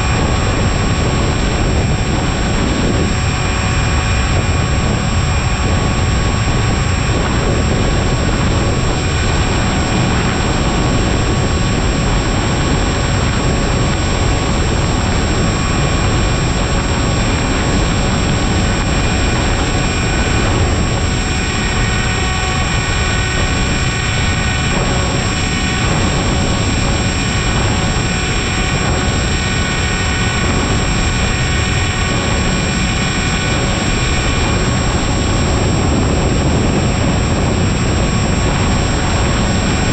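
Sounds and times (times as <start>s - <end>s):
electric motor and propeller whine: 0.0s - 39.9s
wind rumble on microphone: 0.0s - 39.9s.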